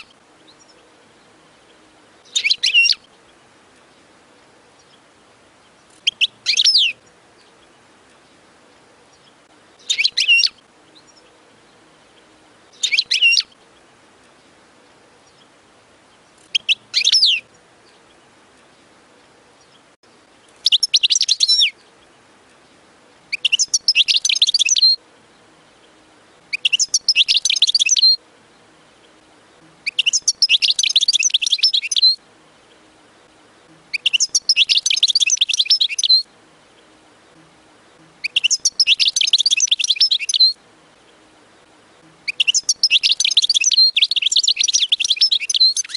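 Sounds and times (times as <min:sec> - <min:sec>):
goldfinch singing: 0:00.0 - 0:45.9.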